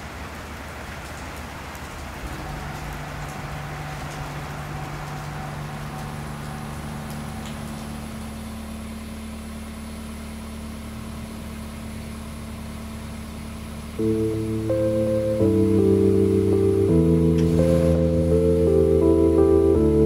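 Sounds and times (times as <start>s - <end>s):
low engine hum idling: 0.1s - 20.0s.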